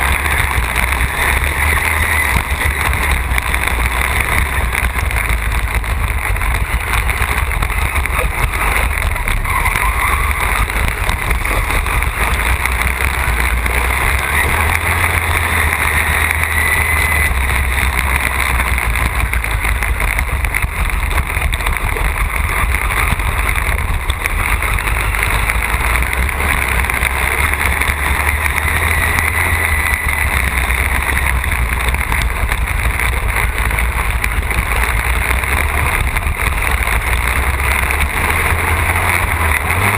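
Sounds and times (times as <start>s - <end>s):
lawn tractor engine running hard: 0.0s - 39.9s.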